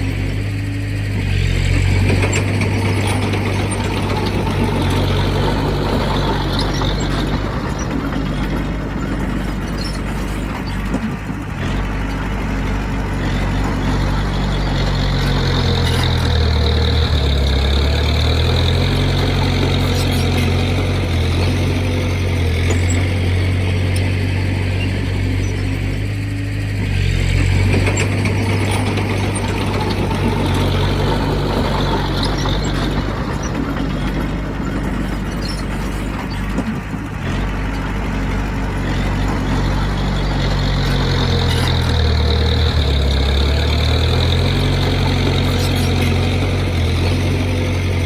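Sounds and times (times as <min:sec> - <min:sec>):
heavy diesel engine under load: 0:00.0 - 0:48.0.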